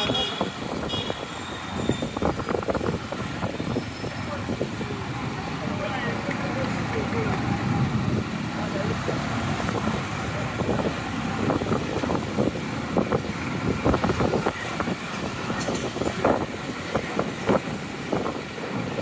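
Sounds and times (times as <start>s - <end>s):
motorcycles and cars passing: 0.0s - 19.0s.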